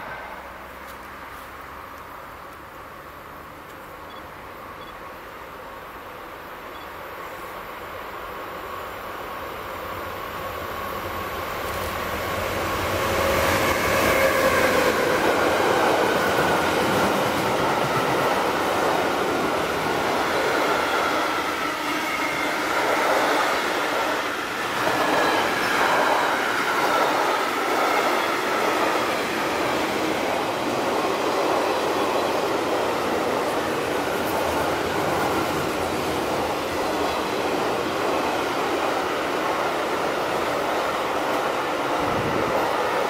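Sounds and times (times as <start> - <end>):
electric locomotive passing: 0.0 - 43.0.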